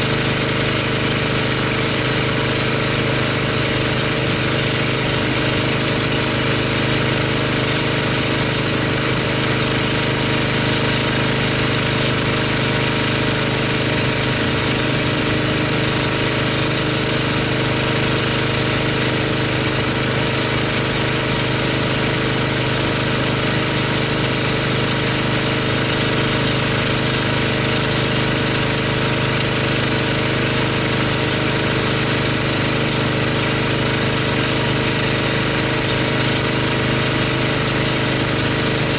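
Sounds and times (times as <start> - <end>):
pressure washer motor drone: 0.0 - 38.9
water jet hissing: 0.0 - 38.9.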